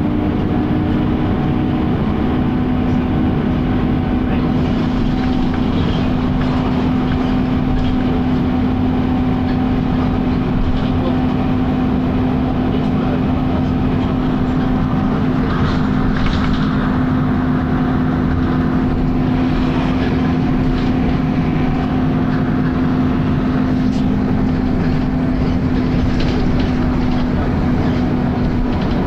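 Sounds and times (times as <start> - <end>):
bus engine droning: 0.0 - 29.0.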